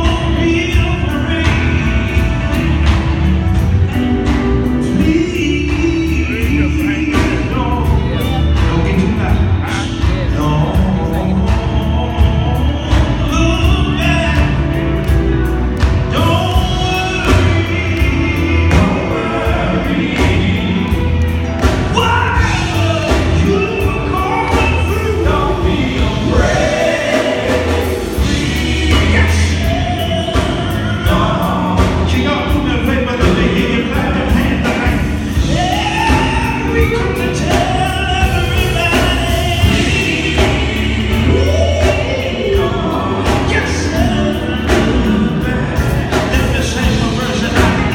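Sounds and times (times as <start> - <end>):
backing vocal harmonies: 0.0 - 47.9
gospel band playing: 0.0 - 47.9
man singing lead: 0.0 - 47.9.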